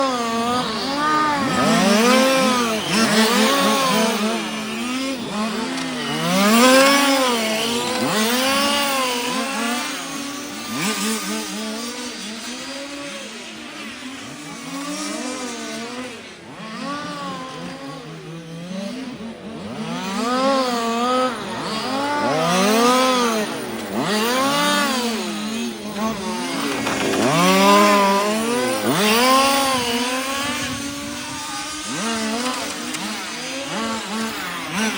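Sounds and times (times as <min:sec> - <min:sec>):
model car engines revving: 0:00.0 - 0:34.9.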